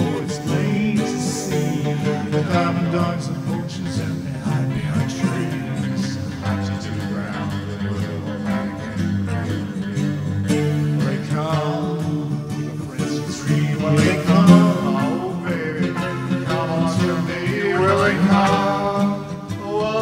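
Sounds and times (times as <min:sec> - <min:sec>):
instrumental rock music with guitar: 0:00.0 - 0:20.0.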